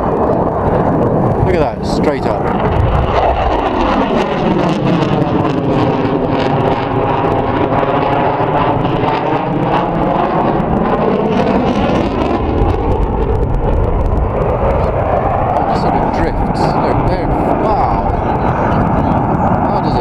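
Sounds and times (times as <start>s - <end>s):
jet aircraft engine in flight: 0.0s - 20.0s.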